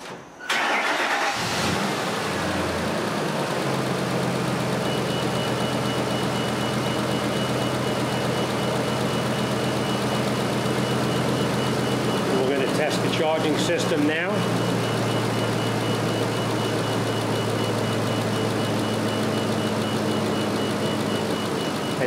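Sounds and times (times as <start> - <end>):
truck engine starting and idling: 0.3 - 22.0.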